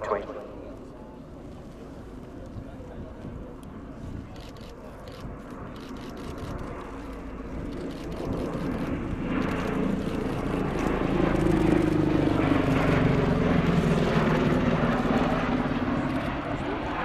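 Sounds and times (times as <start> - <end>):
aircraft rotor rumble flying past: 0.0 - 17.0.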